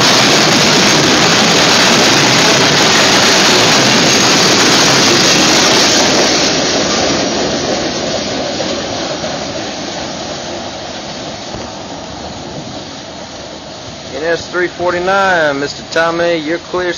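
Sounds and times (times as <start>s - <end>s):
freight train rolling past: 0.0s - 16.9s.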